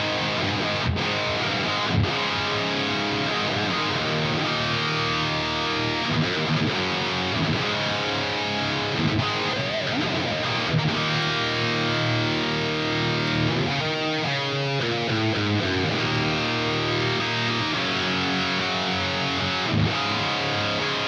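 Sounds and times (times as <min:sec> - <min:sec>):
distorted electric guitar riff: 0:00.0 - 0:21.0.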